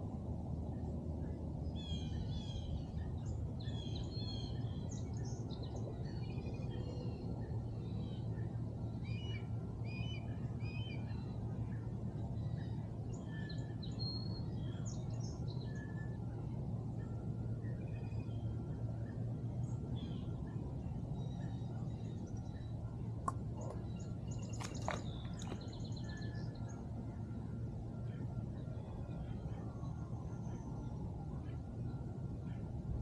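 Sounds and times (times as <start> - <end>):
steady low rumble: 0.0 - 33.0
songbirds chirping: 1.2 - 33.0.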